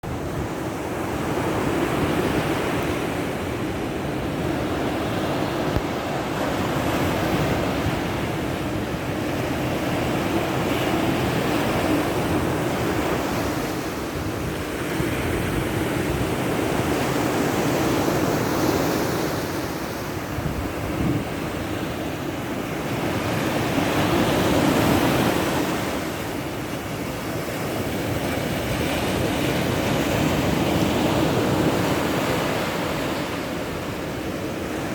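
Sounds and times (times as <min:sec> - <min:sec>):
waves washing onto shore: 0:00.0 - 0:34.9.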